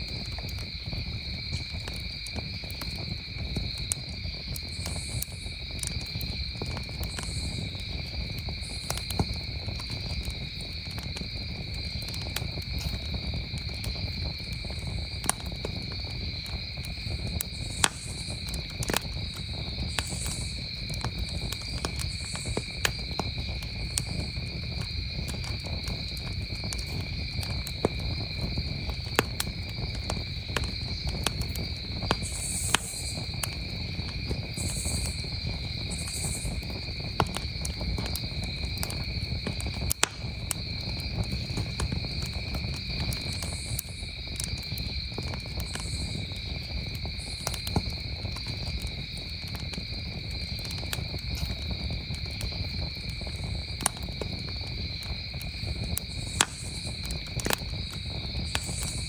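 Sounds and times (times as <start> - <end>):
campfire crackling and popping: 0.0 - 59.0
crickets trilling: 0.0 - 59.0.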